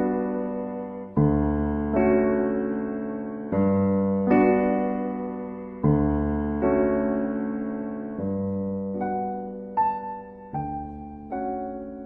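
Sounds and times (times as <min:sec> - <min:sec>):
slow piano-like chords: 0:00.0 - 0:12.0.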